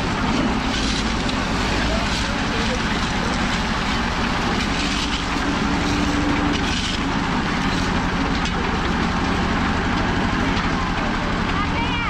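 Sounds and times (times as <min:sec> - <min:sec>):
mixer drum gritty rattle: 0:00.0 - 0:11.6.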